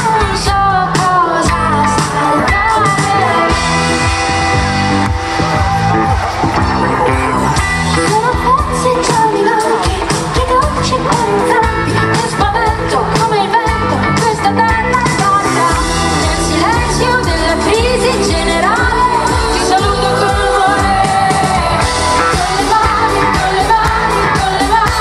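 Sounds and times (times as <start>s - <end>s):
live pop band playing: 0.0s - 25.0s
person singing: 0.0s - 25.0s.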